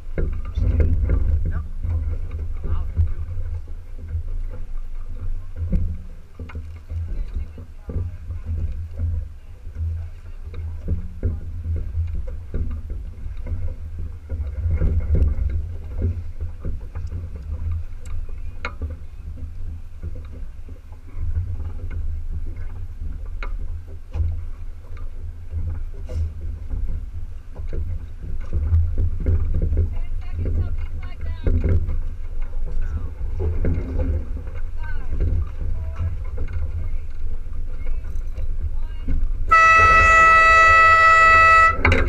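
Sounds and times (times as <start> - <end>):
water splashing along hull: 0.0 - 42.0
wind rumbling on microphone: 0.0 - 42.0.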